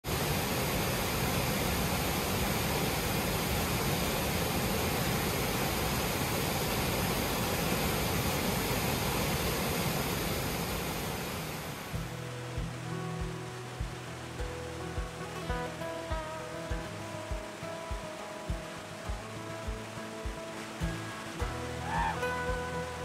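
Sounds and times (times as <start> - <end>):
rushing whitewater roar: 0.1 - 23.0.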